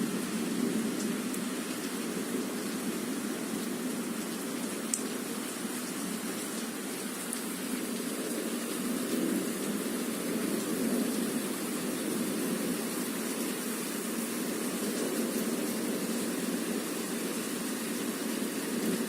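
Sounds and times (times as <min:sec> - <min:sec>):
rain pouring: 0:00.0 - 0:19.0.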